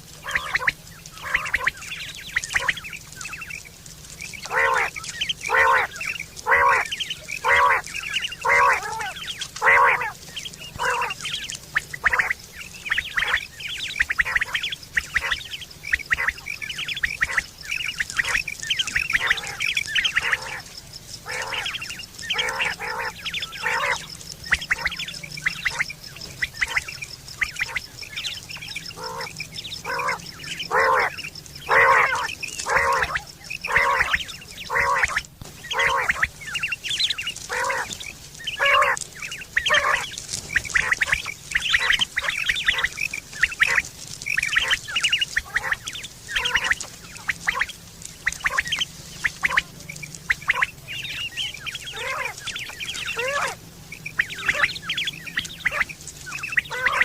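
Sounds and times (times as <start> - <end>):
quail calling: 0.0 - 57.0.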